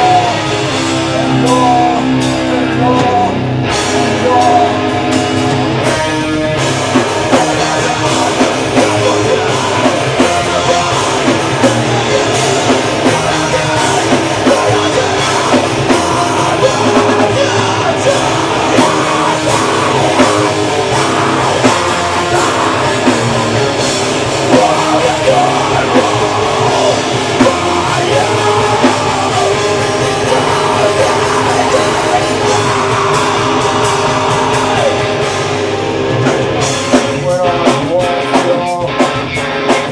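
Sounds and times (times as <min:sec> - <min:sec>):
distorted electric guitars: 0:00.0 - 0:39.9
pounding drum kit: 0:00.0 - 0:39.9
rock vocals: 0:00.0 - 0:39.9.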